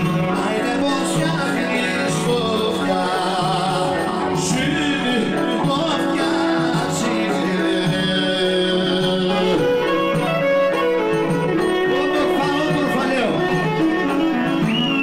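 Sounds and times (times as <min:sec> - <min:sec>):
folk band music with singing: 0:00.0 - 0:15.0.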